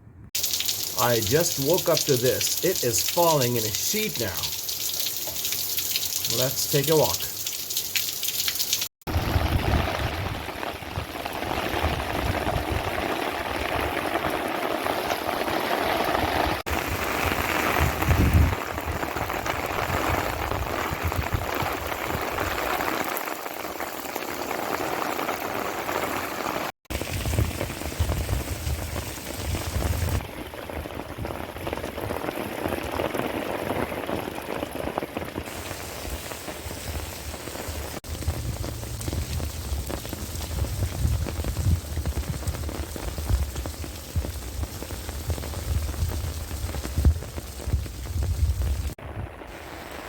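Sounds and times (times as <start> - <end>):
heavy rain falling: 0.4 - 50.0.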